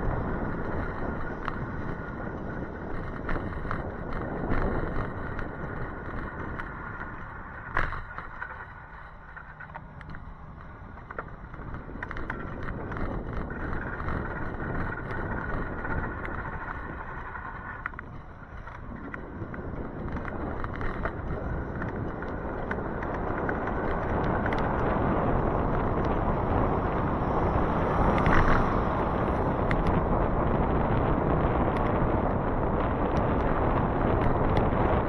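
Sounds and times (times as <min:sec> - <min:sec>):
wind rush: 0:00.0 - 0:07.7, 0:10.3 - 0:35.0
small ticks: 0:00.0 - 0:30.0
wet road noise: 0:00.0 - 0:35.0.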